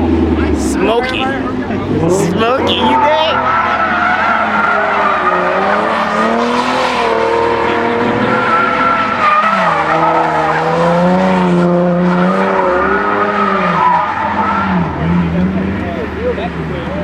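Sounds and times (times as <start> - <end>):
car engine revving high: 0.3 - 15.8.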